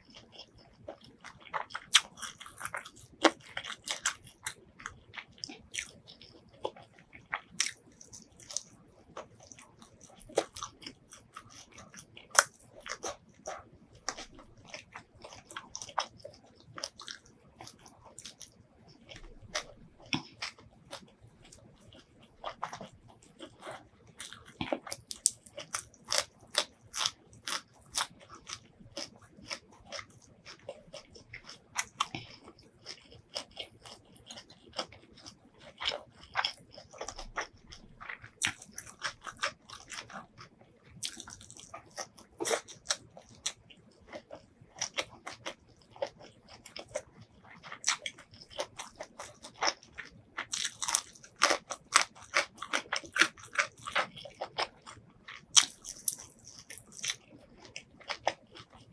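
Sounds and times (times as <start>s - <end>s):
chewing and crunching food: 0.0s - 58.9s.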